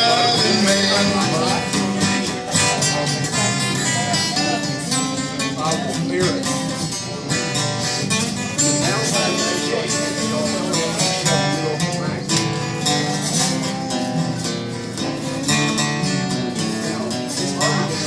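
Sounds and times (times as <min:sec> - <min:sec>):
acoustic guitar country music: 0:00.0 - 0:18.0.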